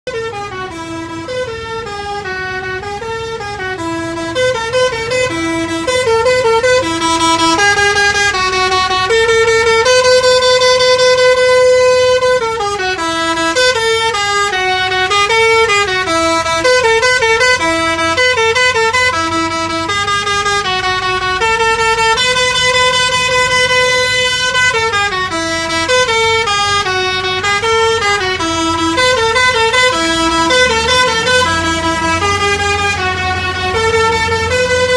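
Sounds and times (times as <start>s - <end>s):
musical air horn melody: 0.1s - 34.9s.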